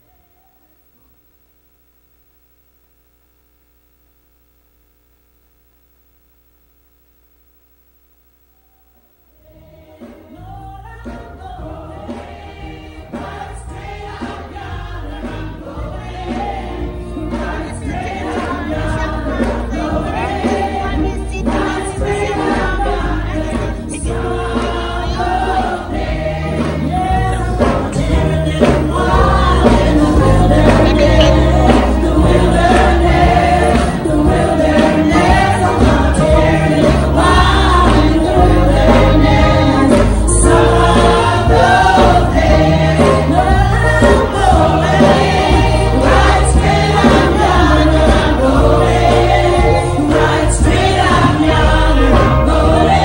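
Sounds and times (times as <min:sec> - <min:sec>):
faint mains hum: 0:00.0 - 0:47.8
gospel choir singing: 0:09.4 - 0:53.0.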